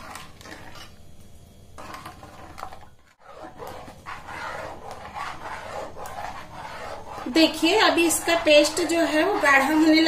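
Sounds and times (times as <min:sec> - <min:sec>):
steel spoon scraping a pan: 0:00.0 - 0:01.0, 0:01.8 - 0:10.0.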